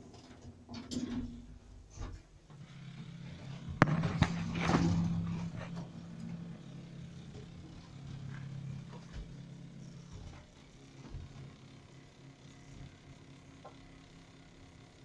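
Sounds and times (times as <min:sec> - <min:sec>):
lift humming: 0:01.2 - 0:15.0.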